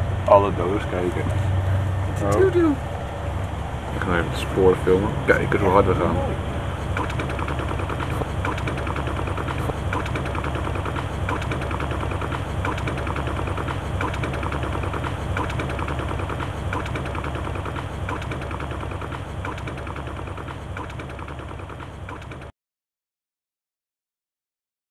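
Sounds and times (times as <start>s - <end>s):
clatter of train wheels: 0.0s - 22.5s
train rumble: 0.0s - 22.5s.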